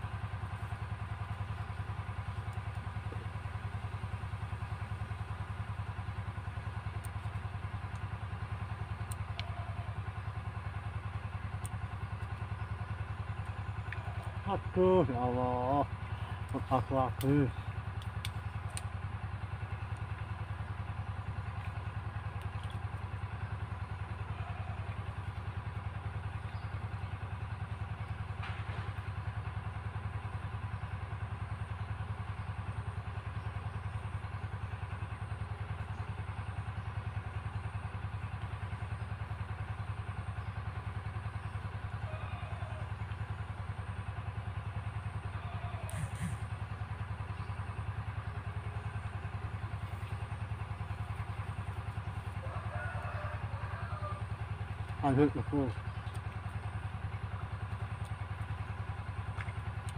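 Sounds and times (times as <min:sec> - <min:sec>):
small engine droning: 0:00.0 - 0:59.9.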